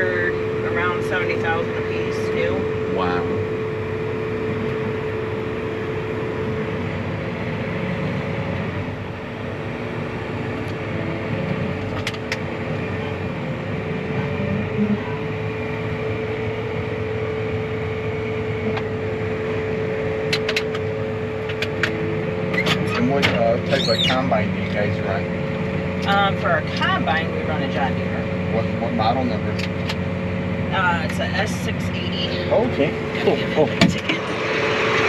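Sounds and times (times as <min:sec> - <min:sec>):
engine idling with whine: 0:00.0 - 0:35.0.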